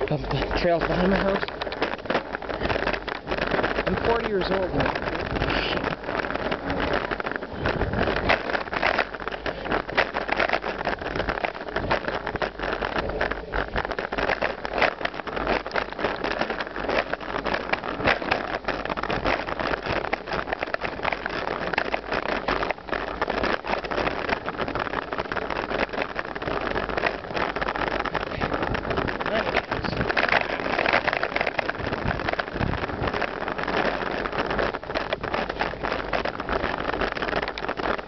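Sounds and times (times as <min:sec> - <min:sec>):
bike knocking and rattling: 0:00.0 - 0:38.0
bike tyres on dirt: 0:00.0 - 0:38.0
wind: 0:00.0 - 0:38.0.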